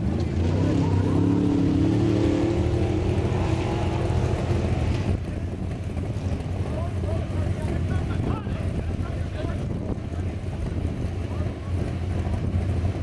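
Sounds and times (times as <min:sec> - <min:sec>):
off-road racing engine revving: 0:00.0 - 0:13.0.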